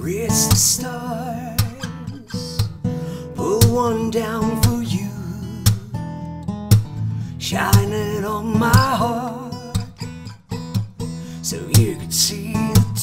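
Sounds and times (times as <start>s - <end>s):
man singing: 0.0s - 6.2s, 7.3s - 10.0s, 11.2s - 13.0s
acoustic guitar strumming: 0.0s - 13.0s.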